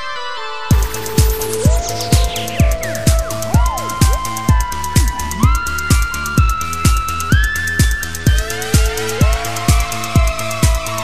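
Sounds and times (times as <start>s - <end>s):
kick drum: 0.7s - 11.0s
synth notes sliding up: 0.7s - 11.0s.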